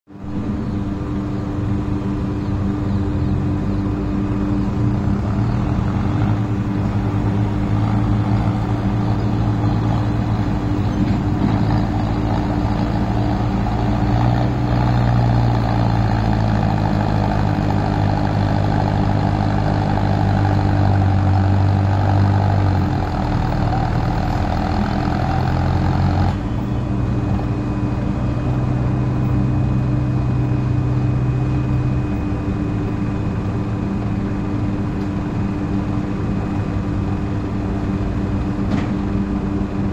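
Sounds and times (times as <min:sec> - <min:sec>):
tractor diesel engine under load: 0:00.1 - 0:39.9.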